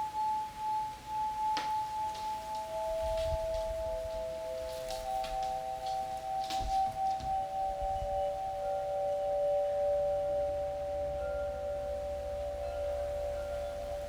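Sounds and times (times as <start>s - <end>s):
crystal singing bowls ringing: 0.0s - 14.0s
wind chime notes: 0.0s - 14.0s.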